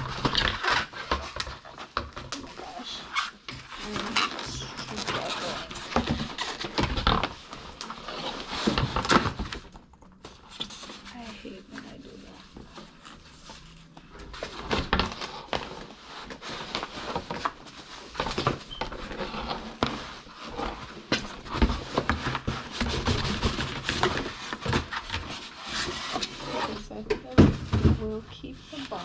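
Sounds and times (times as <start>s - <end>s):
cardboard box rustling and crinkling: 0.0s - 29.0s.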